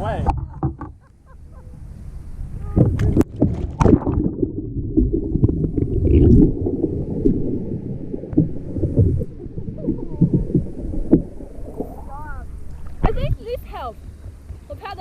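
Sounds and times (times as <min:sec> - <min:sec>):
water sloshing and gurgling: 0:00.0 - 0:15.0
water splashing: 0:00.1 - 0:15.0.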